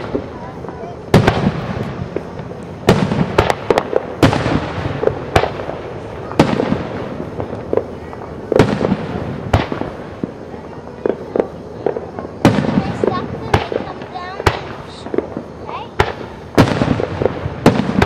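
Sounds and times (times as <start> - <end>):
fireworks bursting with echoes: 0.0 - 18.0.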